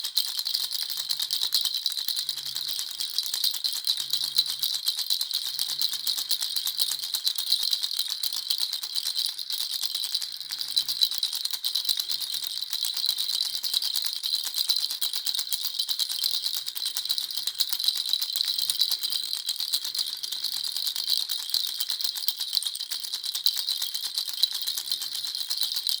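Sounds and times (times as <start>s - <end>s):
baby rattle shaken: 0.0s - 26.0s.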